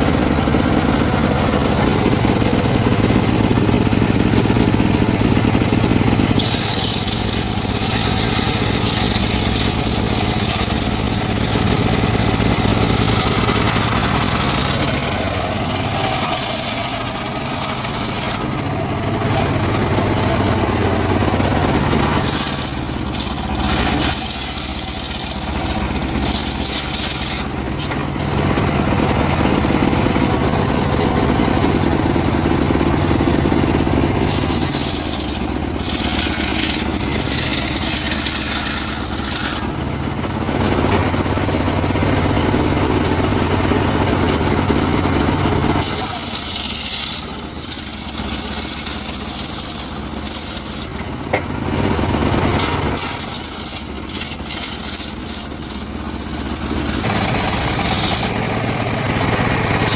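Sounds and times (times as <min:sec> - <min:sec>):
saw cutting wood: 0:00.0 - 0:59.9
saw engine running: 0:00.0 - 0:59.9.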